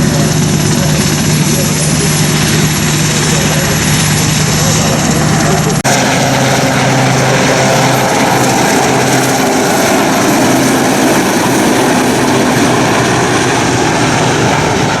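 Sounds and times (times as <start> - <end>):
helicopter rotor and turbine: 0.0 - 15.0.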